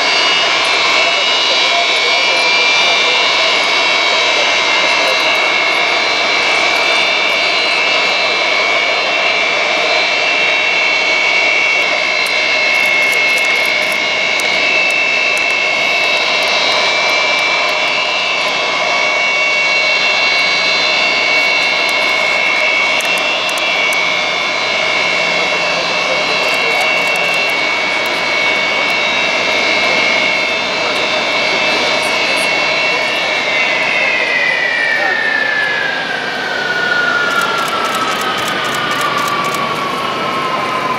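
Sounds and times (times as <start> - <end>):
jet engines roaring with whine: 0.0 - 40.9.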